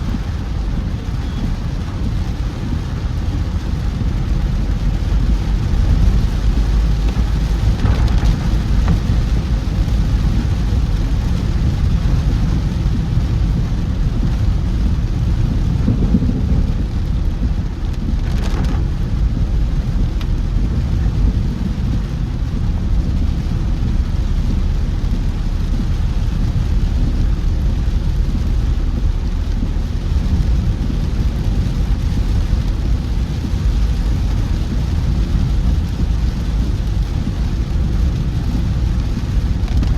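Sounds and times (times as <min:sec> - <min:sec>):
car driving on wet road: 0:00.0 - 0:39.9
heavy rain on a car: 0:00.0 - 0:39.9.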